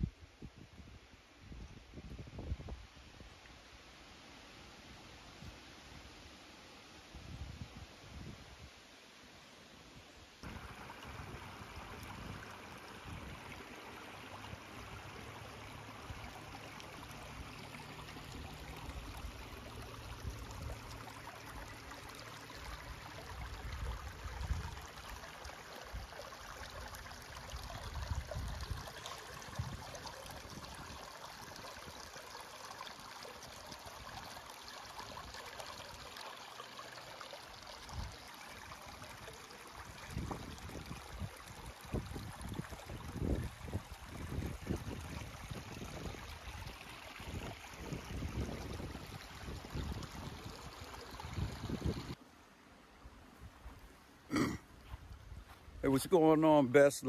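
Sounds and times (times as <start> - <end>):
creek babbling over stones: 10.4 - 57.0.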